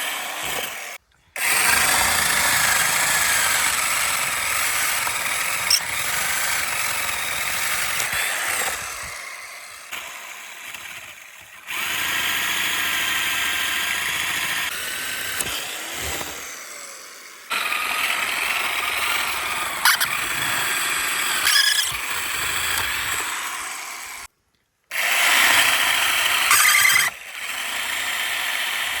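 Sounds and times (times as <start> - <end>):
electric woodworking machine running: 0.0 - 24.3, 24.9 - 29.0.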